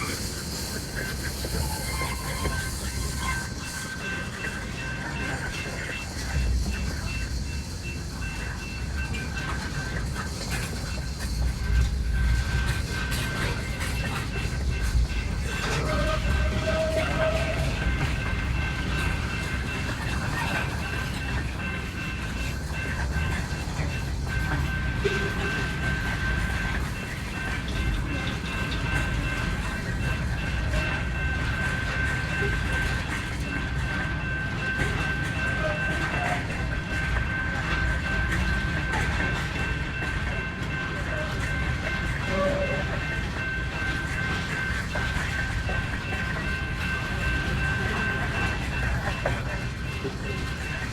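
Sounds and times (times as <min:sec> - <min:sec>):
freight train rumbling: 0:00.0 - 0:50.9.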